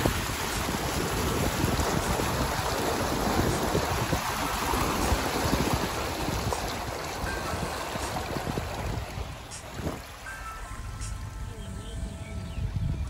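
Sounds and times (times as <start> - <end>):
water rushing and sloshing: 0.0 - 11.5.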